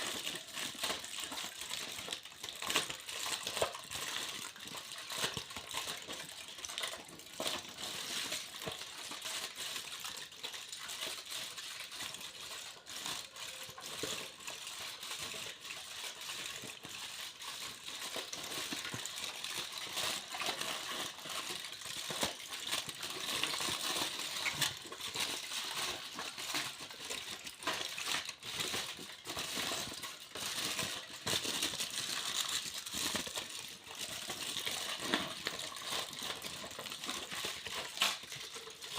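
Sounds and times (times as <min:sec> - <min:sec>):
foil crinkling: 0:00.0 - 0:38.9.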